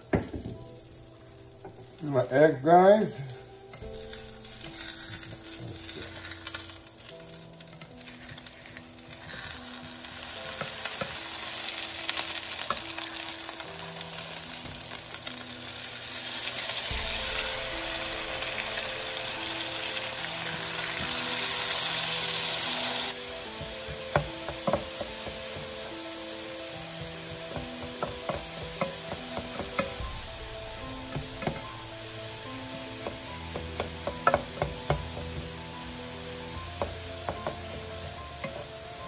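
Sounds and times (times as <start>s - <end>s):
eggs sizzling in a frying pan: 0.0s - 39.0s.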